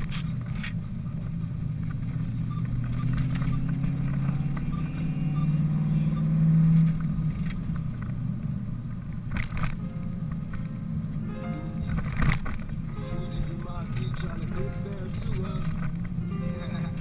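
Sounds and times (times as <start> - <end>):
car engine drone in cabin: 0.0 - 17.0.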